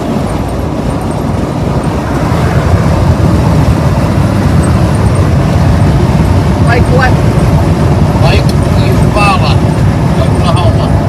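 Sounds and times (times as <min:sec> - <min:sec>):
car driving heard from inside: 0:00.0 - 0:11.0.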